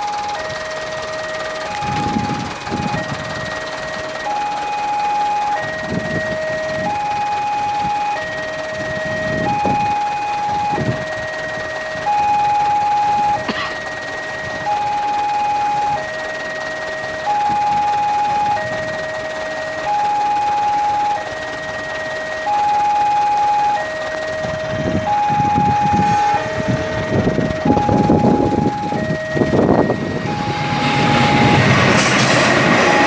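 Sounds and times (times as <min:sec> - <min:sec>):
low rumbles: 0:00.0 - 0:16.0, 0:17.0 - 0:33.0
level crossing two-tone alarm: 0:00.0 - 0:33.0.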